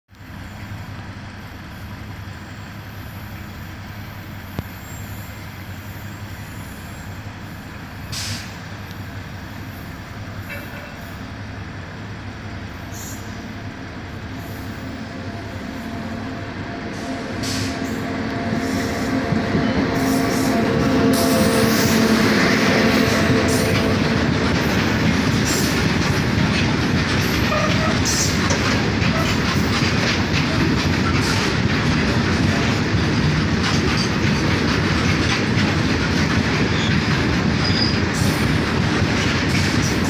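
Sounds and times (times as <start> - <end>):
freight train rumble: 0.1 - 40.0
locomotive tonal hum: 0.2 - 40.0.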